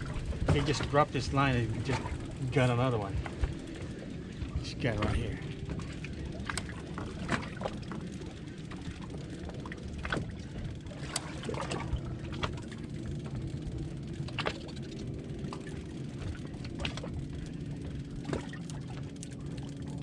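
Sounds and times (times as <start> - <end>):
fishing boat engine rumble: 0.0 - 20.0.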